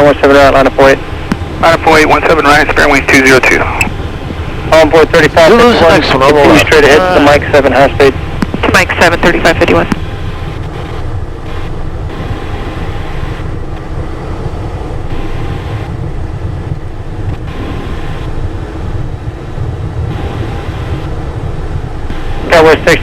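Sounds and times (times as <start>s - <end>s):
aircraft cockpit rumble: 0.0s - 23.0s.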